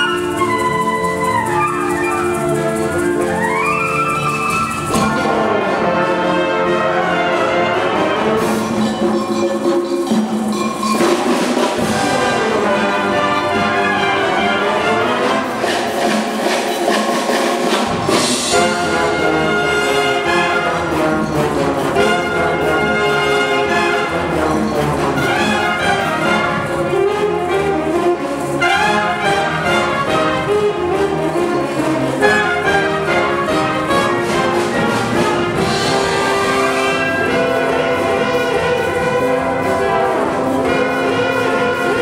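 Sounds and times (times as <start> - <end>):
wind orchestra playing chords: 0.0 - 42.0.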